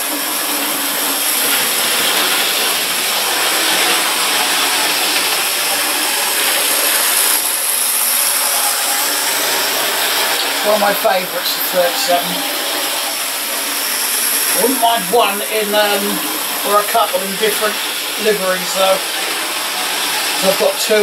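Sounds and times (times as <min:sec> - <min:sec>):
model train motor whirring: 0:00.0 - 0:21.0.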